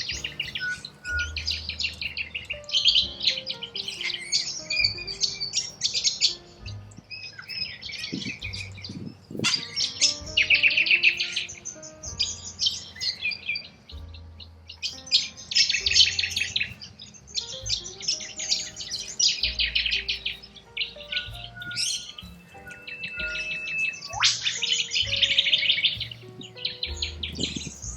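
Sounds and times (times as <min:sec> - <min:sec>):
soft background music: 0:00.0 - 0:27.9.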